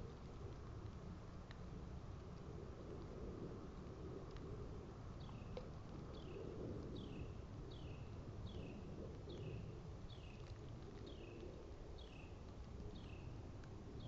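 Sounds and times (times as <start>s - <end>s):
low outdoor hiss: 0.0s - 14.0s.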